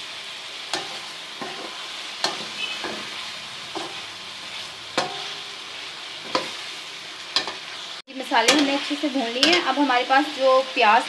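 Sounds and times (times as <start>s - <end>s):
food sizzling in pan: 0.0s - 11.0s.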